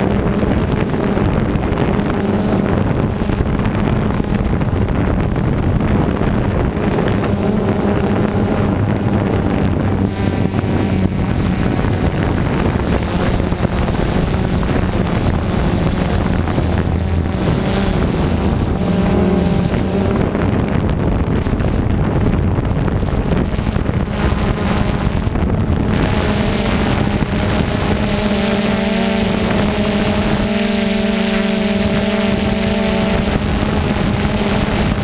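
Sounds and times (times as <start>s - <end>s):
drone propellers humming: 0.0s - 35.0s
wind rumbling on microphone: 0.0s - 35.0s.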